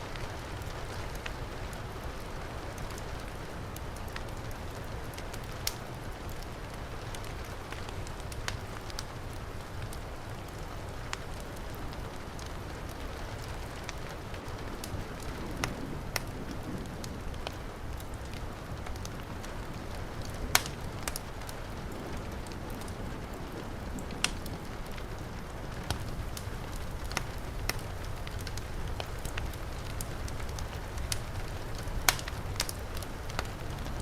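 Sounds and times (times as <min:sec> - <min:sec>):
heavy rain falling: 0:00.0 - 0:34.0
wood fire crackling: 0:00.0 - 0:34.0.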